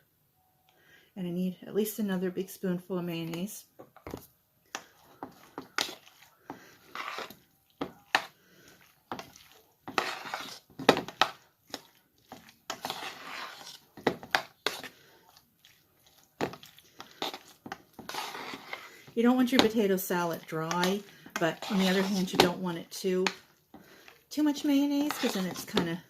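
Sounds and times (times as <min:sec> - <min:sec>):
wet squishing of salad: 0:04.6 - 0:26.0.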